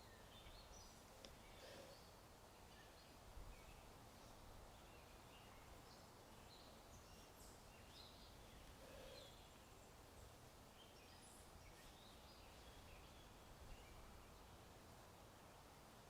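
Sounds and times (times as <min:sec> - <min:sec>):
faint birds chirping: 0:00.0 - 0:16.0
wind: 0:00.0 - 0:16.0.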